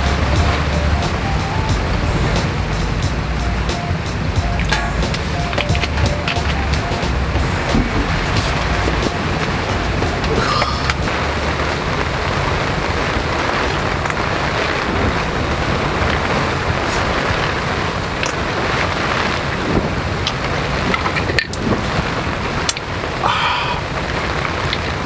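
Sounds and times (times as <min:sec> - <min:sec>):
sleet pattering on tent fabric: 0:00.0 - 0:21.3.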